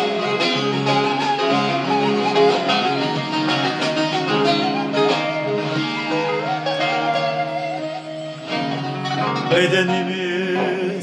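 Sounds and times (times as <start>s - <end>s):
plucked strings: 0.0s - 11.0s
violin melody: 0.0s - 11.0s.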